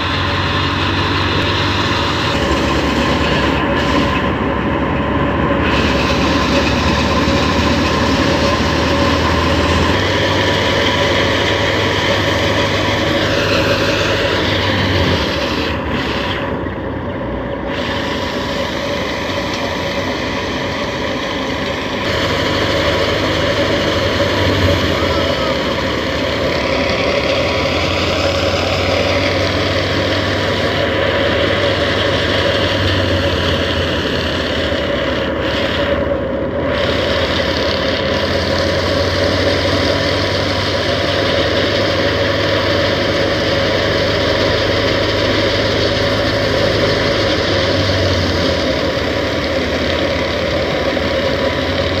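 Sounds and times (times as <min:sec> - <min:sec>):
diesel tractor engine under load: 0:00.0 - 0:52.0
grain thresher running: 0:00.0 - 0:52.0.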